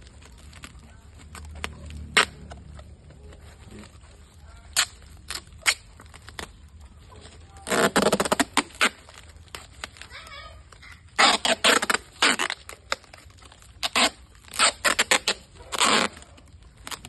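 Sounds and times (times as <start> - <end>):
plastic sack snapping and crackling: 0.0 - 17.0.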